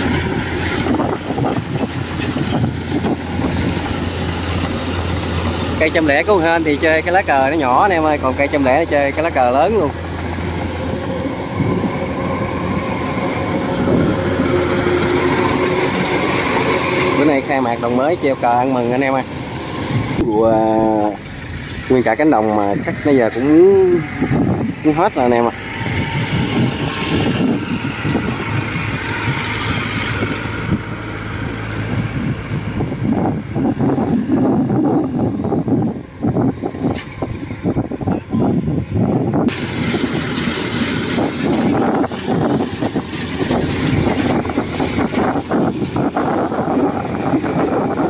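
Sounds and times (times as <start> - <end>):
combine harvester drone: 0.0 - 48.0
low hum: 0.0 - 48.0
tracked grain carrier running: 0.0 - 48.0.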